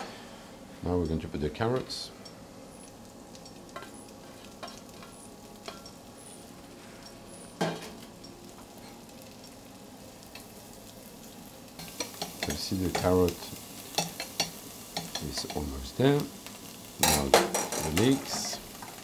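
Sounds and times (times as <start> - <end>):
vegetables sizzling in butter: 0.0 - 19.0.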